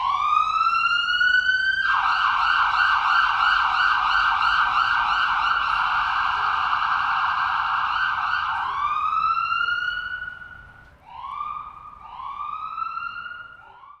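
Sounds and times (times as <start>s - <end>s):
ambulance siren: 0.0s - 14.0s.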